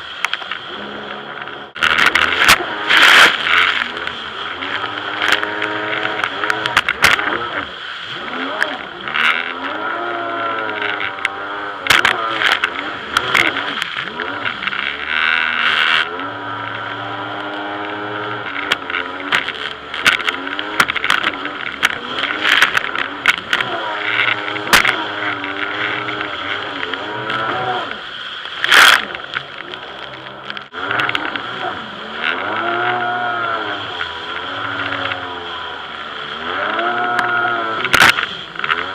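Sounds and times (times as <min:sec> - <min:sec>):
rush of spray: 0:00.0 - 0:38.9
hull slapping water: 0:00.3 - 0:38.9
jet ski engine revving: 0:00.6 - 0:38.9.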